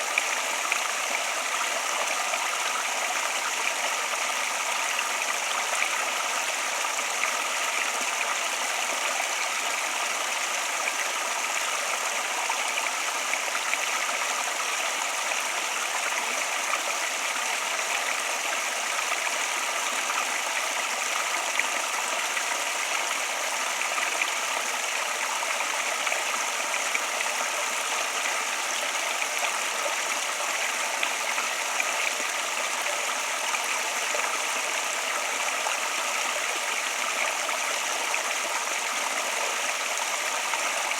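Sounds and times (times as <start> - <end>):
stream running: 0.0 - 40.9.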